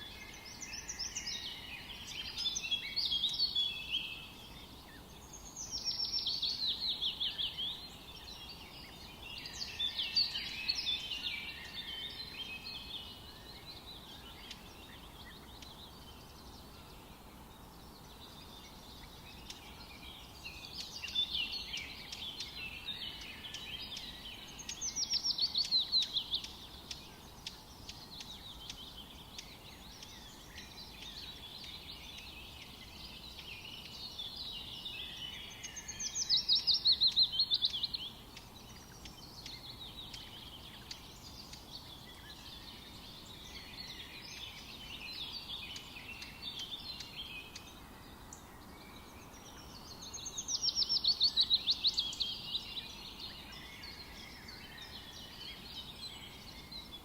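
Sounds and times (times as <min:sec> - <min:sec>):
birds chirping and trilling: 0:00.0 - 0:57.0
faint steady hiss: 0:00.0 - 0:57.0.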